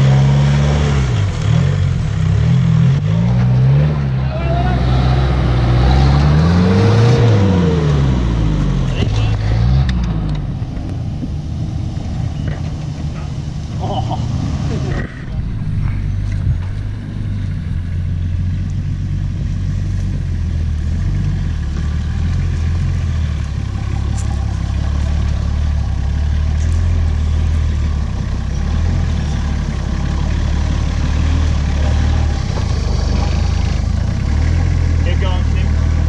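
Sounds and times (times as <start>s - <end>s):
vehicle engine running at low revs: 0.0s - 36.0s.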